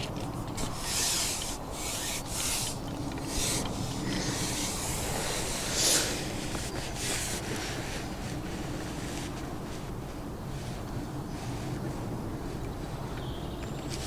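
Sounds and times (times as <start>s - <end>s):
rustling and hissy scraping: 0.0s - 14.0s.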